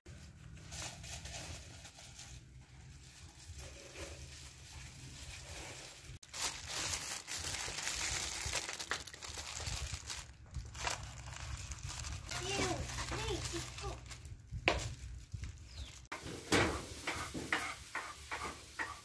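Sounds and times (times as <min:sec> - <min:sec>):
plastic gloves crinkling: 0:00.1 - 0:16.2.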